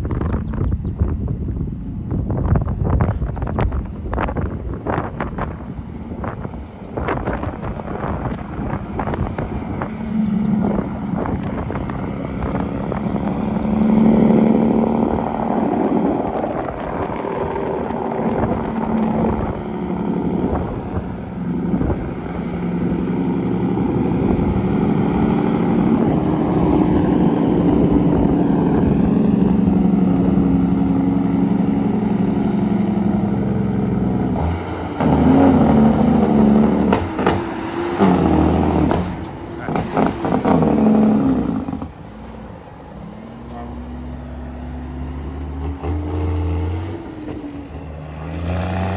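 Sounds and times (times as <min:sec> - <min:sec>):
dump truck engine labouring: 0:00.0 - 0:48.9.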